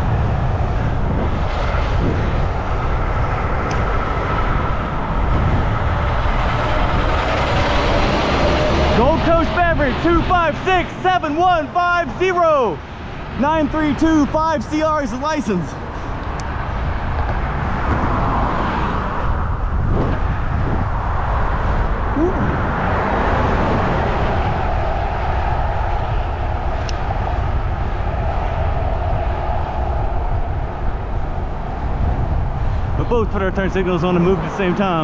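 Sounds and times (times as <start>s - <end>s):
car traffic passing: 0.0s - 35.0s
wind rushing over microphone: 0.0s - 35.0s.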